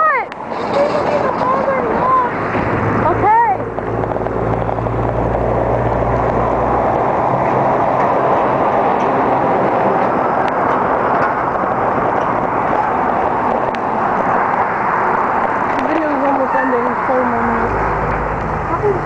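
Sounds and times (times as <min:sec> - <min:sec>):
road traffic: 0:00.0 - 0:19.0
low rumble: 0:00.3 - 0:15.6
wind on microphone: 0:00.3 - 0:19.0.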